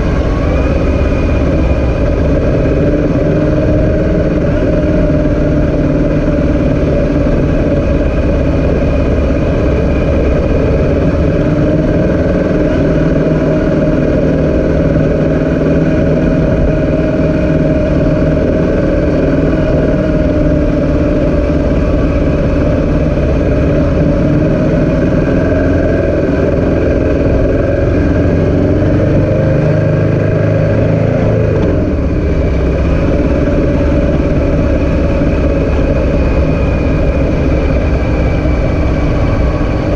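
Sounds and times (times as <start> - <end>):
motor engines droning: 0.0 - 39.9.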